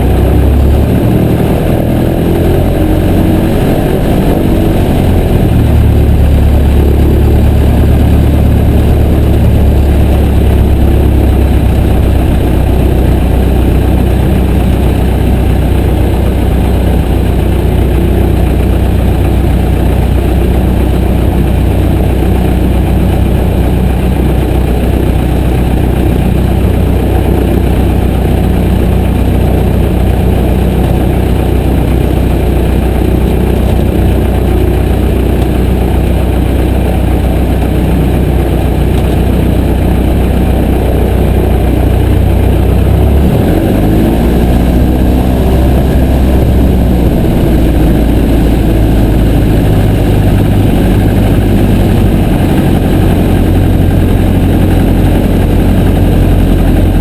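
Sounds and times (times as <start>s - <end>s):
airplane engine drone: 0.0s - 57.0s
propeller rushing noise: 0.0s - 57.0s.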